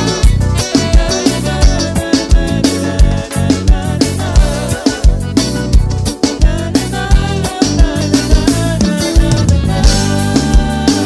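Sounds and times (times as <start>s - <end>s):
band playing instrumental music: 0.0s - 11.0s.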